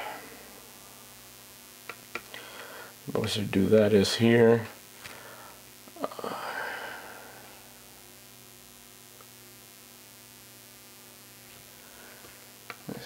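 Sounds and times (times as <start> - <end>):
faint recording hiss: 0.0 - 13.0
low electrical hum: 0.0 - 13.0.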